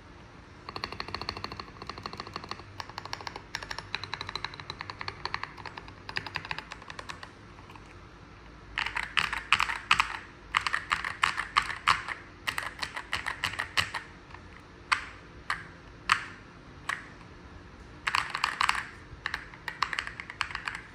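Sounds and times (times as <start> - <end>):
mechanical keyboard typing: 0.6 - 8.0, 8.8 - 17.3, 18.0 - 20.9.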